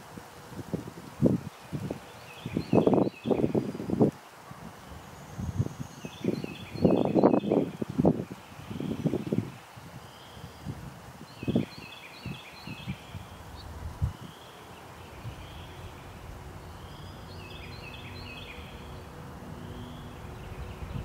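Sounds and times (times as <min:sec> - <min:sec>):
small birds chirping: 0:01.2 - 0:21.0.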